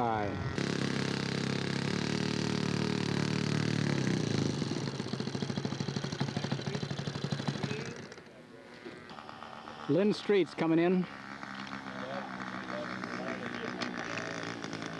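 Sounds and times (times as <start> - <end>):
model airplane engine running: 0.0 - 14.9.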